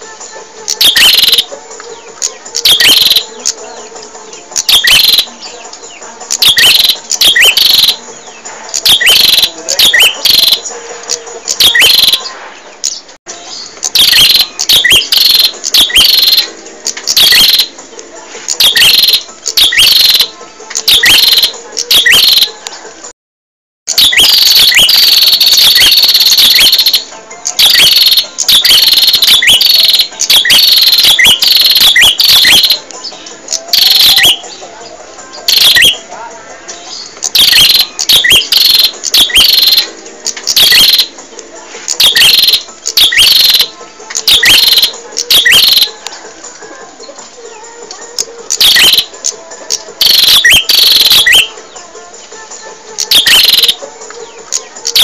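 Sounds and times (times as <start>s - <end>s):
bird chirping: 0.0s - 22.6s, 23.9s - 36.1s, 36.7s - 46.0s, 47.0s - 51.9s, 52.6s - 55.0s.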